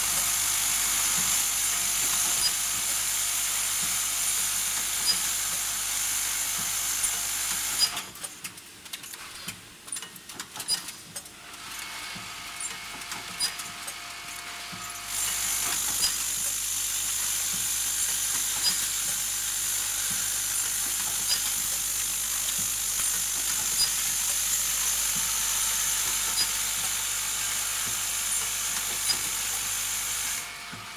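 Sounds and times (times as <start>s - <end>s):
machine hum and hiss: 0.0s - 8.4s, 10.6s - 30.9s.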